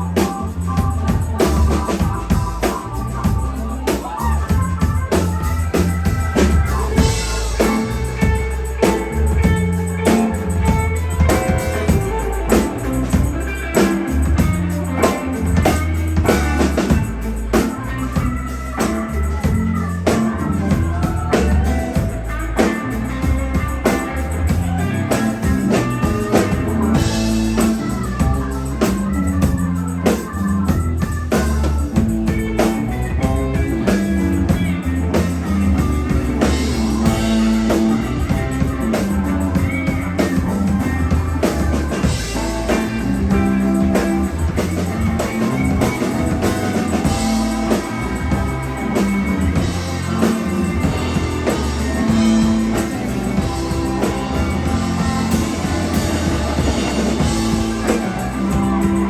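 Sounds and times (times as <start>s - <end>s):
bass line: 0.0s - 59.0s
drum kit beat: 0.0s - 59.0s
electric guitar: 0.0s - 59.0s
sustained organ chords: 0.0s - 59.0s.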